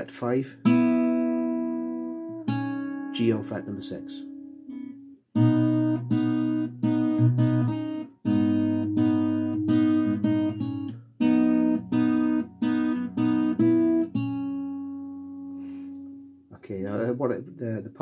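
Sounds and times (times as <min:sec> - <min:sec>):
fingerstyle acoustic guitar: 0:00.6 - 0:16.4.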